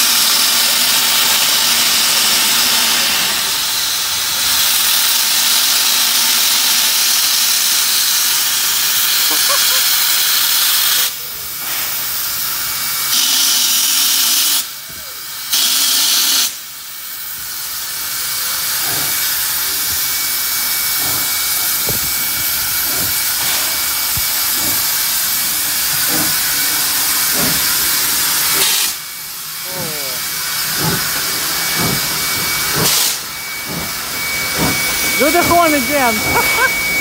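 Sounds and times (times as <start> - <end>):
steam locomotive hissing: 0.0 - 37.0.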